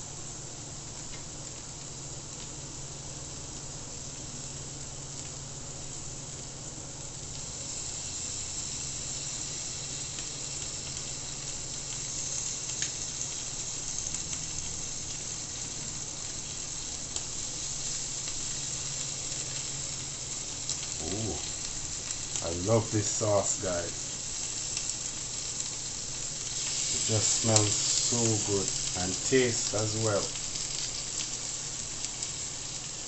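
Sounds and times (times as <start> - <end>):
chicken sizzling on a grill: 0.0 - 33.0.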